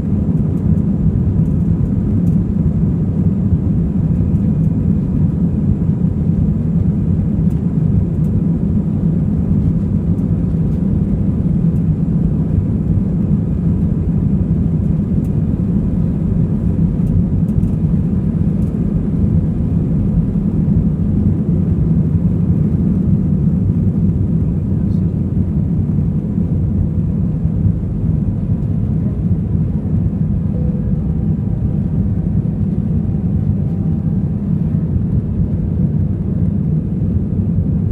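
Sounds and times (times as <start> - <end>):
jet engines rumbling: 0.0 - 37.9.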